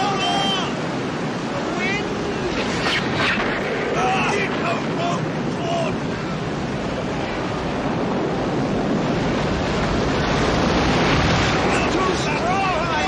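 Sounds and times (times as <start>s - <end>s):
rough waves: 0.0s - 13.0s
wind: 0.0s - 13.0s.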